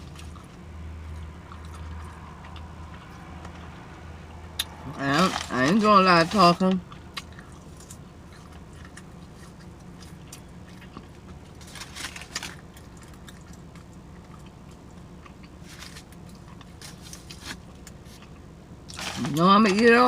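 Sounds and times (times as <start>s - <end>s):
chewing and mouth smacking: 0.0s - 3.8s, 6.8s - 19.1s
steady low hum: 0.0s - 20.0s.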